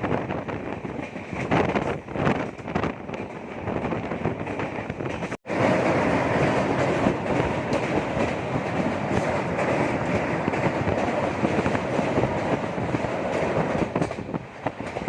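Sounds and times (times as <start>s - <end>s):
train wheels rumbling on track: 0.0s - 15.0s
wind: 0.0s - 15.0s.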